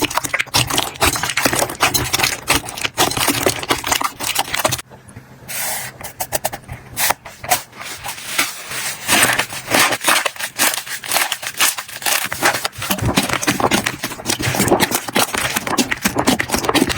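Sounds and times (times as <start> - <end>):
slime squished by hands: 0.0 - 4.8, 8.0 - 16.9.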